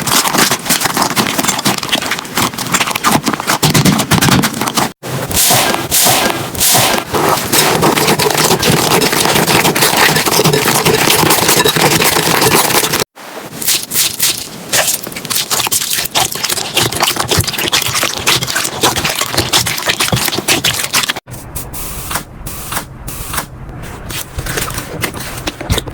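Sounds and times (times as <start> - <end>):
slime crackling and squelching: 0.0 - 21.3.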